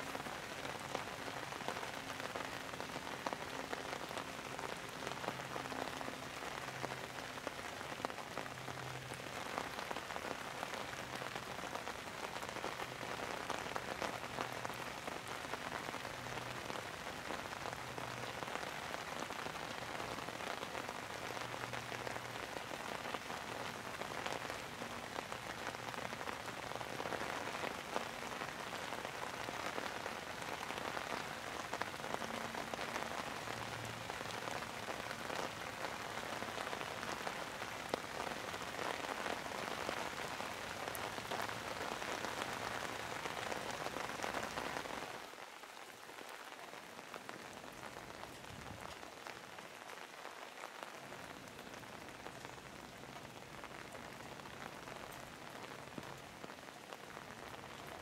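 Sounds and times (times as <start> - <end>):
steady rain with ticking drops: 0.0 - 58.0.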